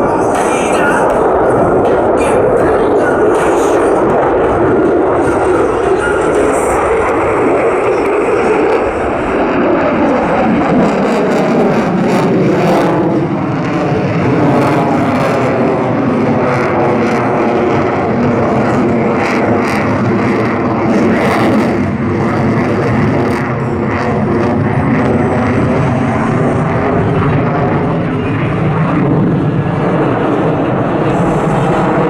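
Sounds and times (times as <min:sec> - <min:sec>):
jet engine roar: 0:00.0 - 0:32.0.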